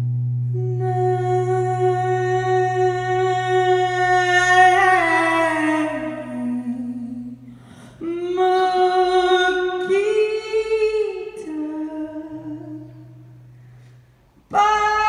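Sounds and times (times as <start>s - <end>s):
woman singing unaccompanied: 0.5s - 13.4s, 14.5s - 15.0s.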